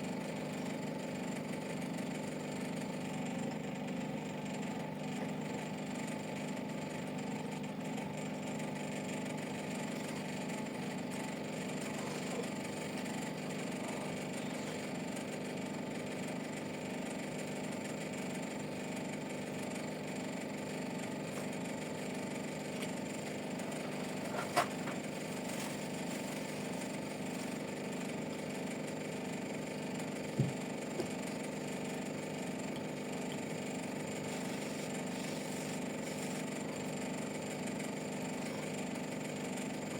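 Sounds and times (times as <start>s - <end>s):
machine hum with tones: 0.0s - 39.9s.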